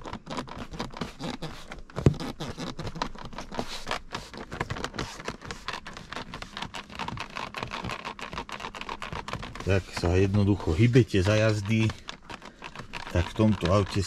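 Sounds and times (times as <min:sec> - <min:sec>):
plastic trim creaking and clicking: 0:00.0 - 0:14.0.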